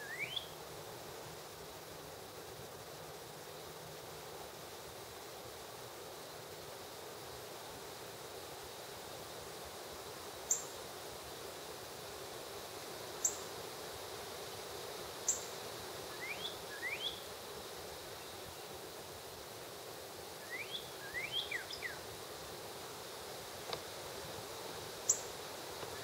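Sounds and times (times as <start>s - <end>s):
steady outdoor hum: 0.0s - 26.0s.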